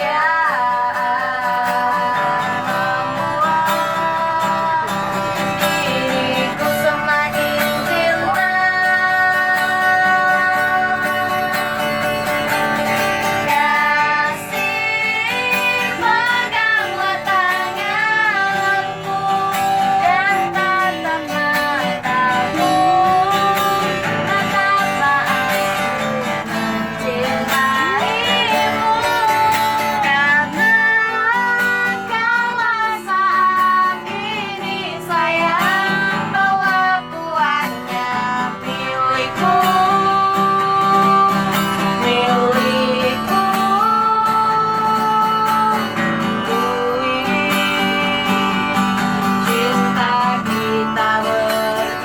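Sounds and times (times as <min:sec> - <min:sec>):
person singing with vibrato: 0:00.0 - 0:52.0
strummed acoustic guitar: 0:00.0 - 0:52.0.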